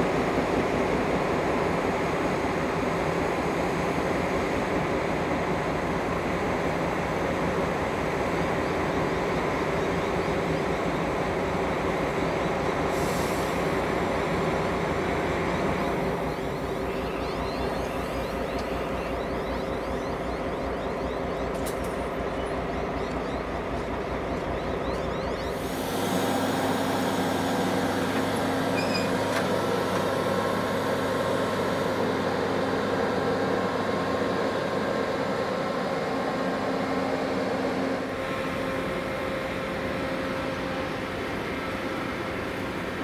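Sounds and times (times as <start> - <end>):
diesel locomotive engine running: 0.0 - 43.0.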